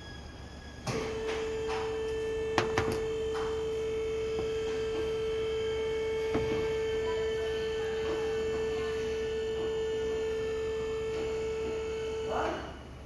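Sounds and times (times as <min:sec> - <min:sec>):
steady single-pitched hum: 0:00.0 - 0:13.0.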